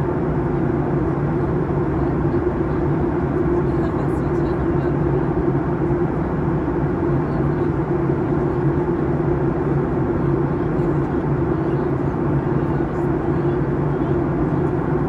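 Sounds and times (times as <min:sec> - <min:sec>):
jet engine drone: 0:00.0 - 0:15.0.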